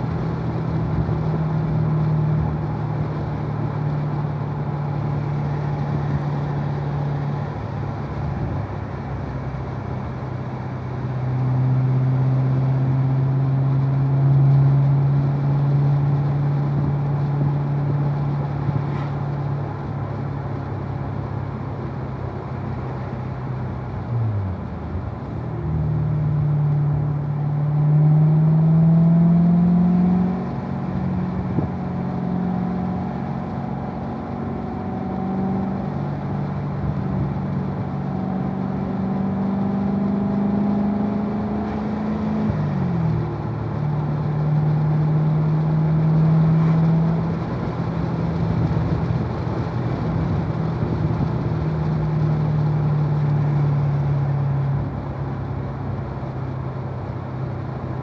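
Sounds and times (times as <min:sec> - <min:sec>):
car engine running: 0:00.0 - 0:58.0
road noise: 0:00.0 - 0:58.0.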